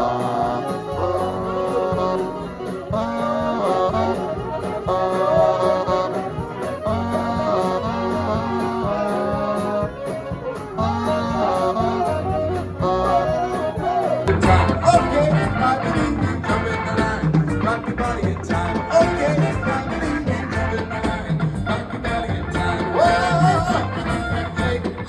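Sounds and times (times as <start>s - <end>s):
bass line: 0.0s - 25.0s
brass phrases: 0.0s - 25.0s
guitar: 0.0s - 25.0s
swing band playing: 0.0s - 25.0s.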